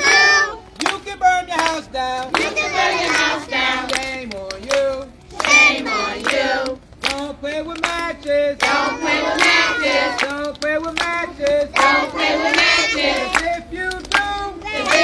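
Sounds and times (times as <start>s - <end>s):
group of children and adults singing: 0.0s - 15.0s
hand-clapping: 0.8s - 15.0s.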